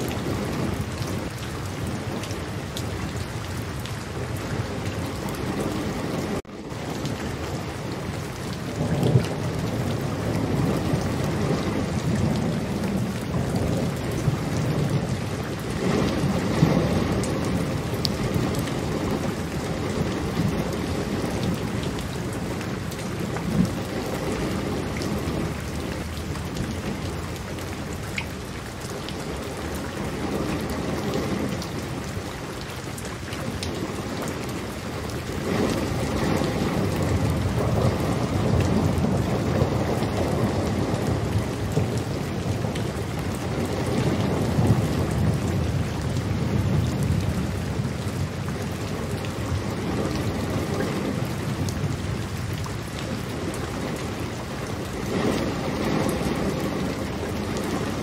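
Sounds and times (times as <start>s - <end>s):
steady rain: 0.0s - 58.0s
rolling thunder: 4.1s - 28.0s, 35.0s - 58.0s.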